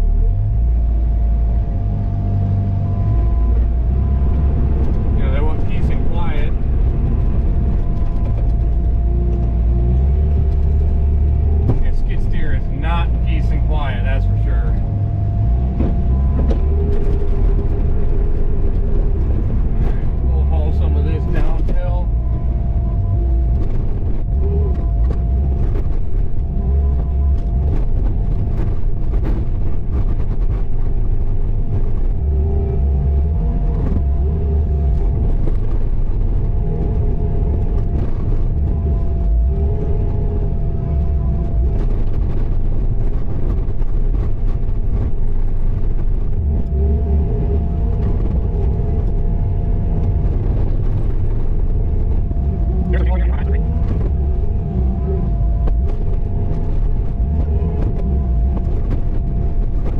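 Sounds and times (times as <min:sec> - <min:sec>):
diesel engine rumbling under load: 0:00.0 - 0:59.9
steady high whine: 0:00.0 - 0:59.9.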